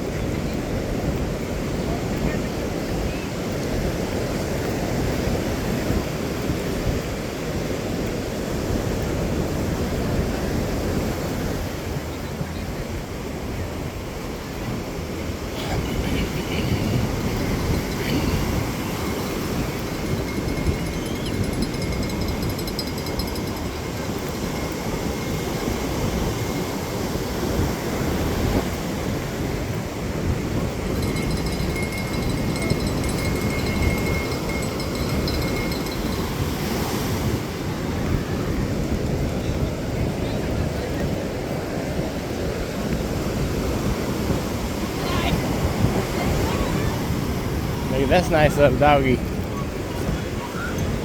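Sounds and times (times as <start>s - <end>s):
surf rushing on beach: 0.0s - 51.0s
wind buffeting microphone: 0.0s - 51.0s.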